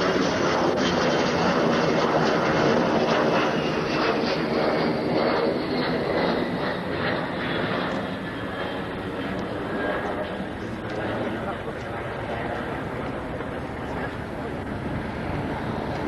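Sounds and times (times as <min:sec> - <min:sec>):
aircraft engine drone: 0:00.0 - 0:16.0.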